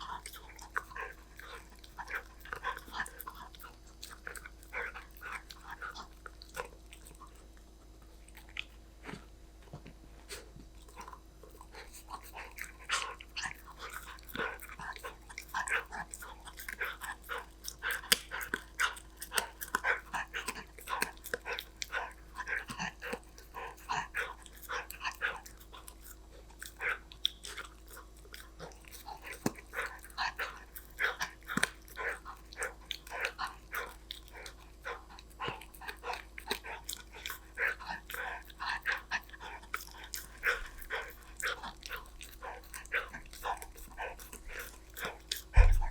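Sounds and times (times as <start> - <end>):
puppy crunching a hard treat: 0.0 - 45.9.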